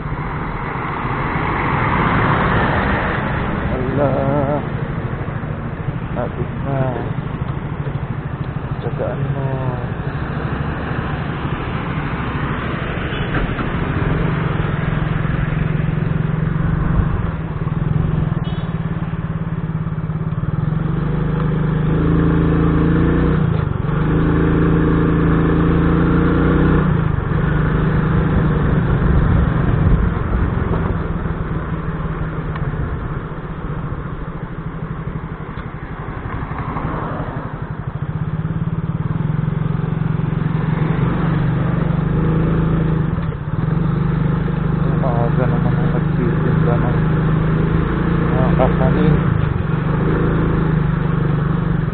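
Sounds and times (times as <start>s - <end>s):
motorcycle engine running: 0.0s - 51.9s
road and wind noise: 0.0s - 51.9s.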